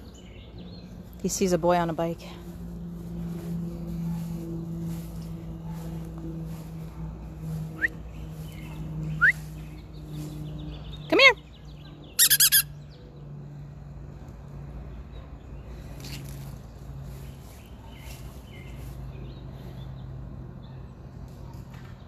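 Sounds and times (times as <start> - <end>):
birds chirping: 0.0 - 13.5, 14.5 - 21.0.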